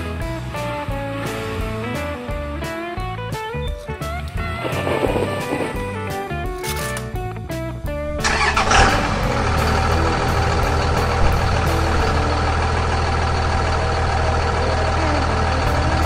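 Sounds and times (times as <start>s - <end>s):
truck engine starting and idling: 0.0s - 16.0s.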